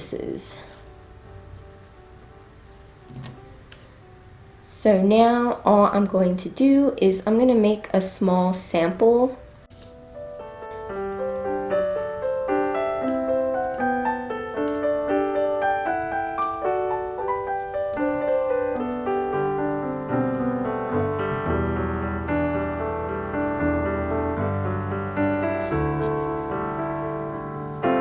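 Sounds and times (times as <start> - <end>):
piano melody: 0.0 - 7.8, 8.6 - 28.0.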